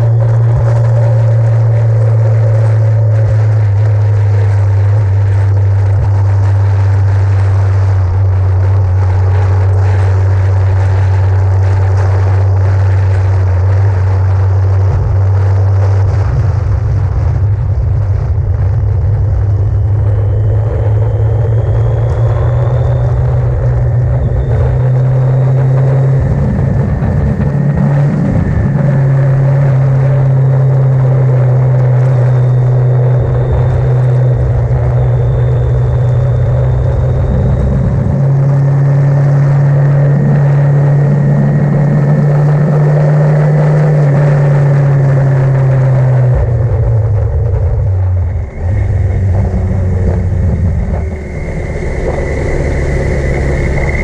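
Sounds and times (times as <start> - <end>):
motorcycle running at speed: 0.0 - 54.0
wind on microphone: 0.0 - 54.0.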